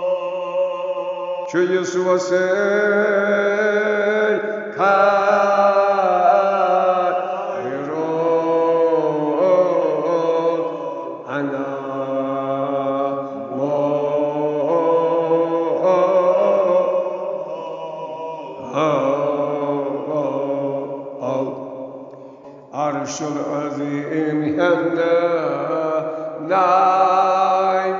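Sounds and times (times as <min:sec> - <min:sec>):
old man chanting: 0:00.0 - 0:21.7, 0:22.7 - 0:27.9.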